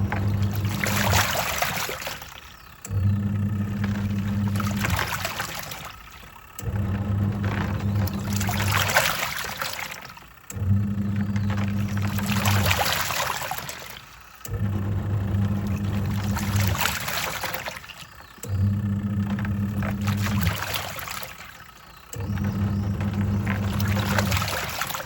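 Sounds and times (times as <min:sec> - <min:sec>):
washing machine motor humming: 0:00.0 - 0:25.0
water sloshing and swishing: 0:00.0 - 0:25.0.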